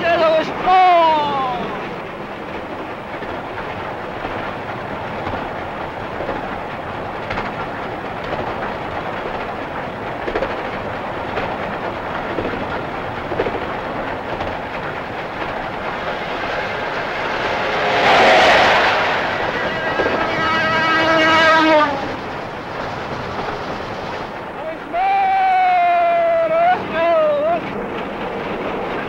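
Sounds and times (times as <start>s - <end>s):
wheels clicking over rail joints: 0.0s - 17.4s, 21.5s - 29.0s
train wheels rumbling and rattling: 0.0s - 29.0s.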